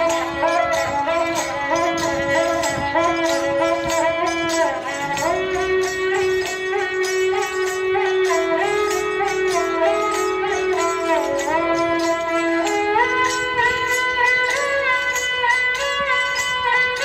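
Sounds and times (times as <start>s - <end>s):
folk melody with slides and bends: 0.0s - 17.0s.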